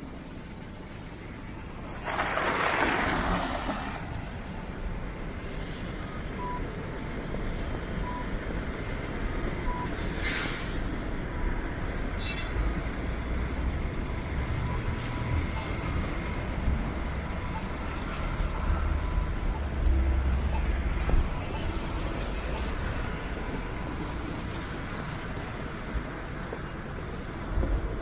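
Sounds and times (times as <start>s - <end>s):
traffic engines rumbling: 0.0s - 28.0s.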